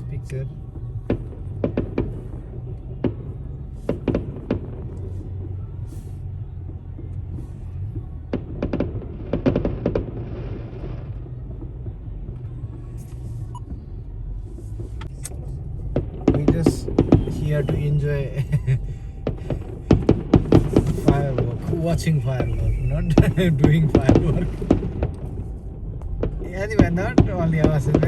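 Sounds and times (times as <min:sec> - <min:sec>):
car engine and road rumble: 0:00.0 - 0:28.0
fireworks banging and crackling: 0:00.0 - 0:28.0.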